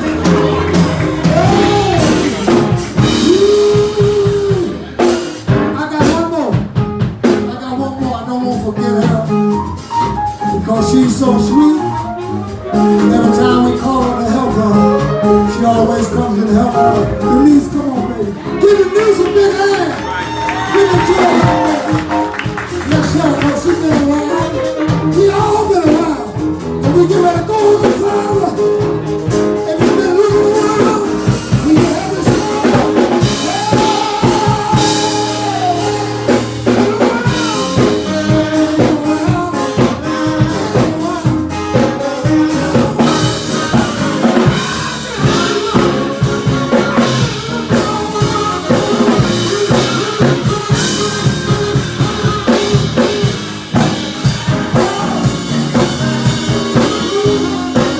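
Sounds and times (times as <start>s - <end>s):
bass guitar: 0.0s - 57.9s
drum kit beat with rimshots: 0.0s - 57.9s.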